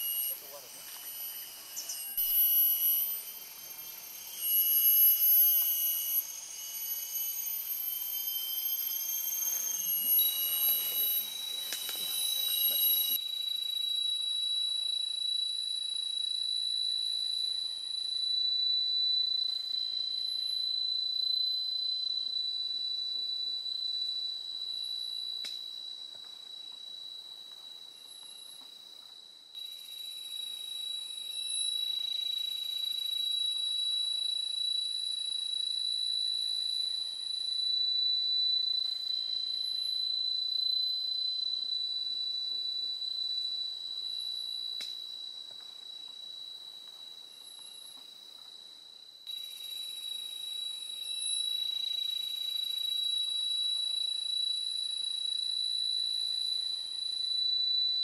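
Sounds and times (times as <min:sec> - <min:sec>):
high-pitched insect whine: 0:00.0 - 0:58.0
hissing insect chorus: 0:00.0 - 0:58.0.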